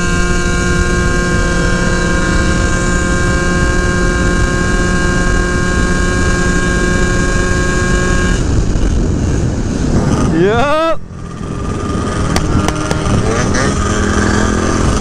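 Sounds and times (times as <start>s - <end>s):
scooter engine at high revs: 0.0s - 15.0s
wind and road noise: 0.0s - 15.0s.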